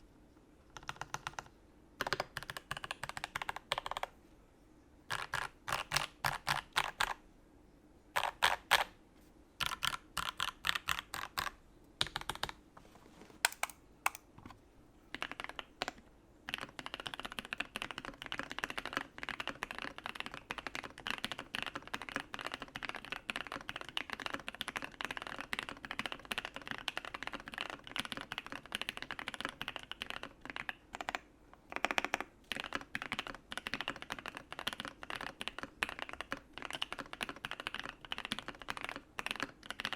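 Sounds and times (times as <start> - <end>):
mechanical keyboard typing: 0.8 - 4.1, 5.1 - 7.2, 8.2 - 8.9, 9.6 - 12.6, 13.4 - 14.3, 15.1 - 39.9.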